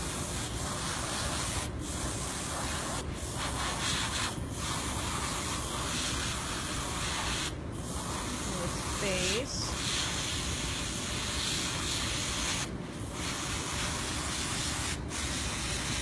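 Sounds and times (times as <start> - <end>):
airbrush spraying hiss: 0.0 - 16.0.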